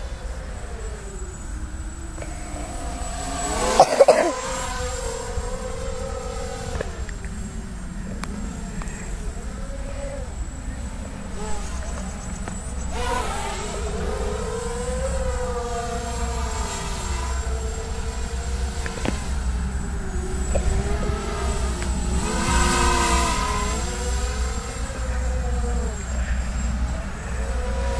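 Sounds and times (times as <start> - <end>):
drone propellers whining: 0.0 - 27.9.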